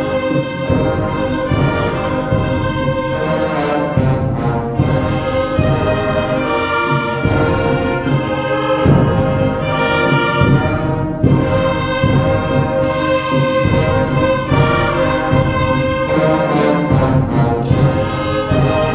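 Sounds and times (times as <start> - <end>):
brass chords: 0.0 - 18.9
timpani: 0.0 - 18.9.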